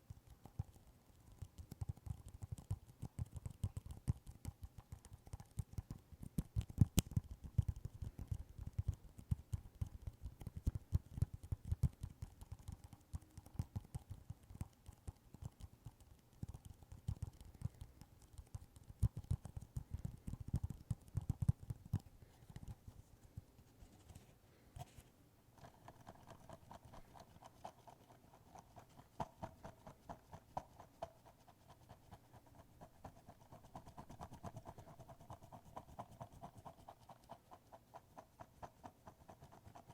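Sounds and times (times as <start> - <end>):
rapid tapping and scratching: 0.0 - 25.0, 25.6 - 39.9.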